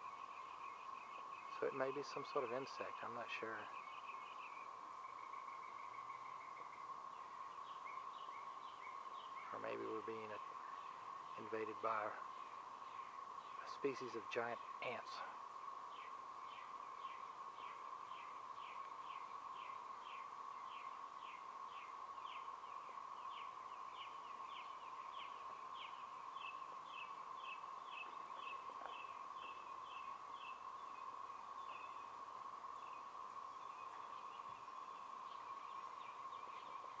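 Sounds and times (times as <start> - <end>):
insect chorus hissing drone: 0.0 - 37.0.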